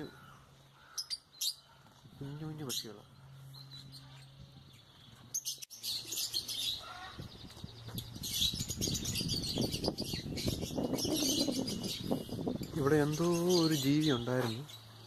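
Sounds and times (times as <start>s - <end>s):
parrots chirping and chattering: 0.0s - 15.0s.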